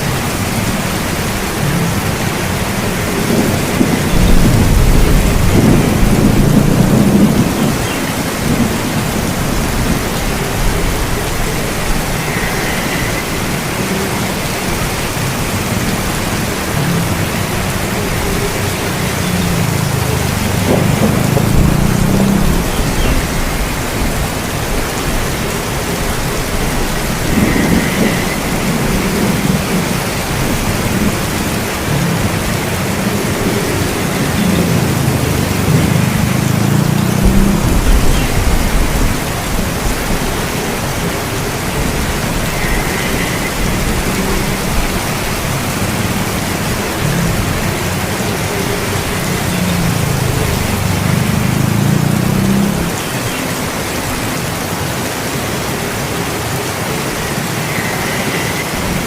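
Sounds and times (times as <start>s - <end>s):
thunder rumbling: 0.0s - 53.0s
steady rain: 0.0s - 59.0s.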